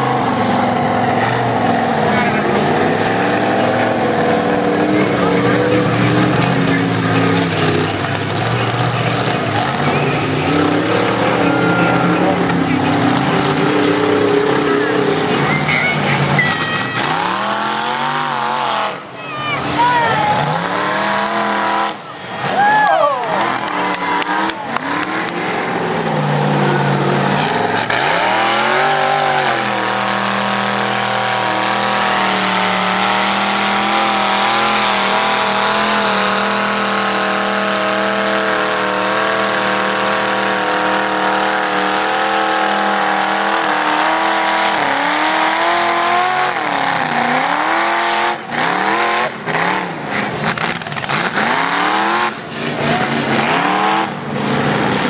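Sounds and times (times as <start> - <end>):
truck engine revving hard: 0.0 - 55.0.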